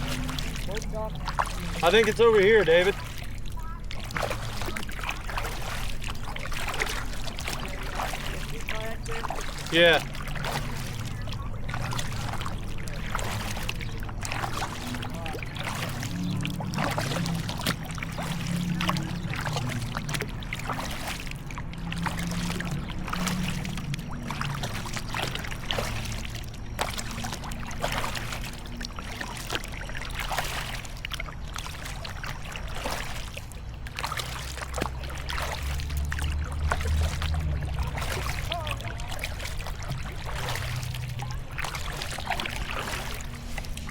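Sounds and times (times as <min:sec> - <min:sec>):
low steady rumble: 0:00.0 - 0:43.9
paddle splashing in water: 0:00.0 - 0:43.9
water dripping: 0:00.0 - 0:43.9.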